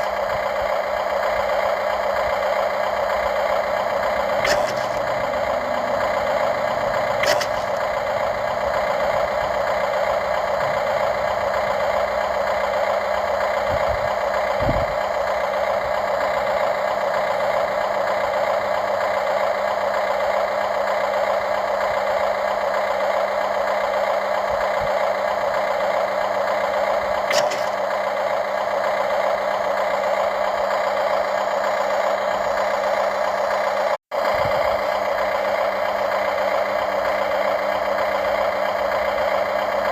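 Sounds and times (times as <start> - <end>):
model excavator motor whine: 0.0 - 39.9.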